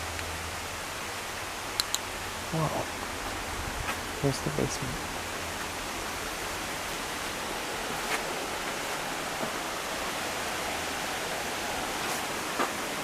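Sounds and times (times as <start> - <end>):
falling water rushing: 0.0 - 13.0.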